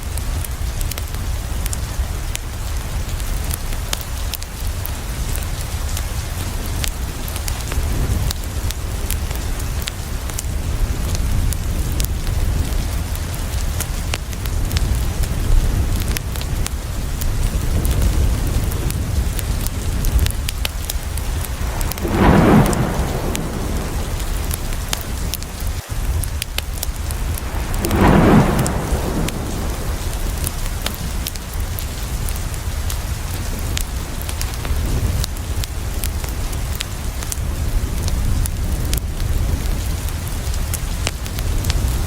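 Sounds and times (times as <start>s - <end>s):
heavy rain on a window: 0.0s - 42.0s
sharp raindrop ticks: 0.0s - 42.0s.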